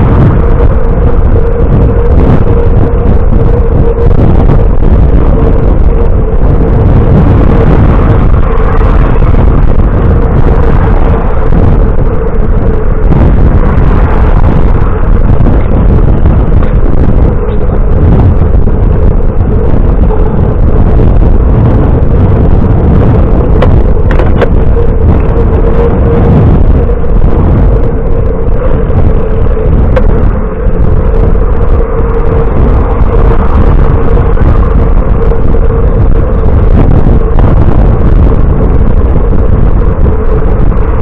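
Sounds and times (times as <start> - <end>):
bicycle road rumble: 0.0 - 41.0
thin steady hum: 0.0 - 41.0
wind noise: 0.0 - 41.0.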